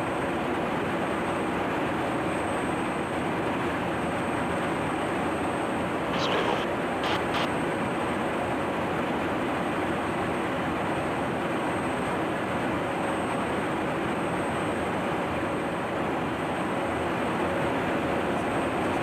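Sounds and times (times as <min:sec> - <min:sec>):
jet engine rushing with high whine: 0:00.0 - 0:19.0.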